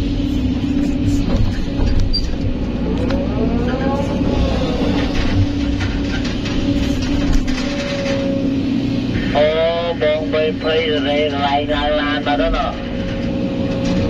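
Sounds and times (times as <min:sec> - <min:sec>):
excavator diesel engine: 0:00.0 - 0:14.0
hydraulic pump whine: 0:00.0 - 0:14.0.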